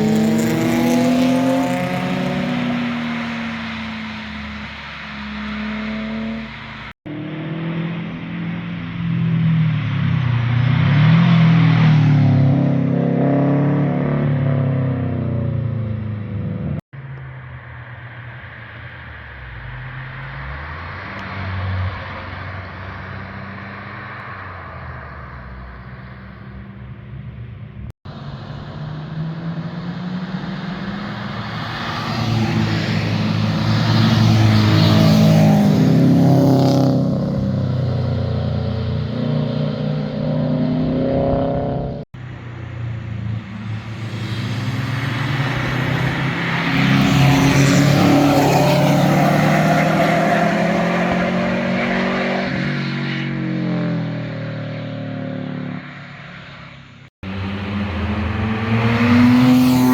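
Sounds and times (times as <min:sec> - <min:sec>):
cars passing at speed: 0:00.0 - 0:59.9.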